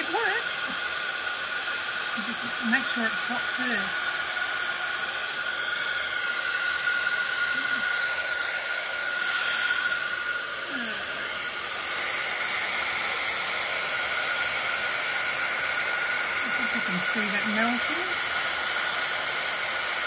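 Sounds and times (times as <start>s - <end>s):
heat gun air hiss: 0.0s - 19.8s.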